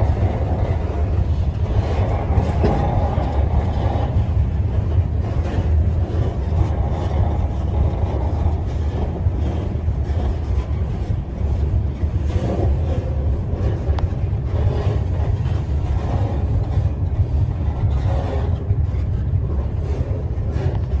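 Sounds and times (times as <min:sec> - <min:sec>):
freight car rumbling on rails: 0:00.0 - 0:21.0.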